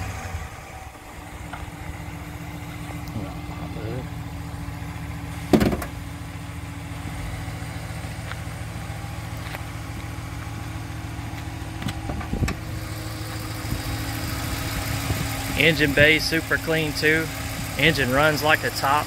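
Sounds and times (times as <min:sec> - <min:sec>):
car engine idling: 0:00.0 - 0:19.0
engine knocks: 0:00.0 - 0:19.0.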